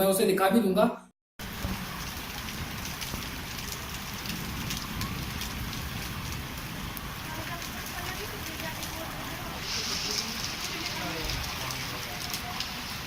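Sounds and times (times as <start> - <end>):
hailstones ticking: 1.4 - 13.0
rain and hail hissing: 1.4 - 13.0.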